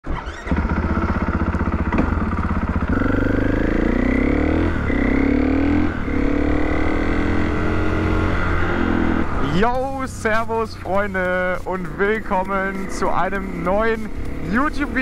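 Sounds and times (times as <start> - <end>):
motorcycle engine accelerating: 0.1 - 15.0.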